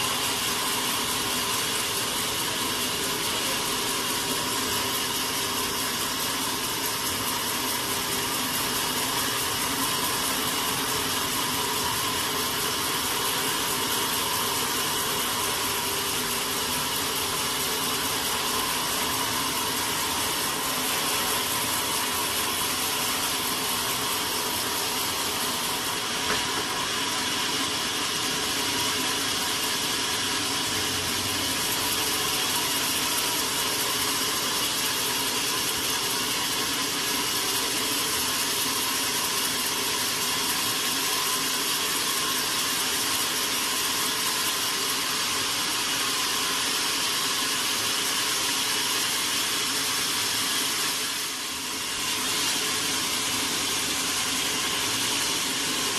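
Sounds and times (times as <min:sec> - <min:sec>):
sawmill saw running: 0:00.0 - 0:55.9.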